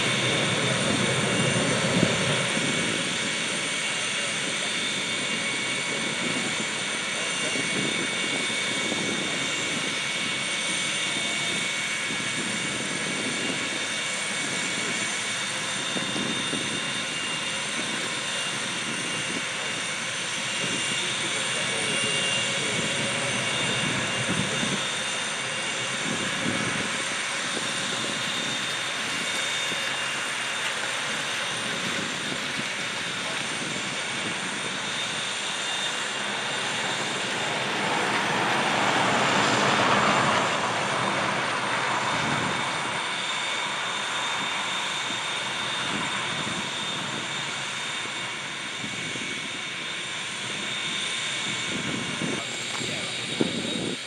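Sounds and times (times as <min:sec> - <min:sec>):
aircraft turbine whine: 0:00.0 - 0:54.0.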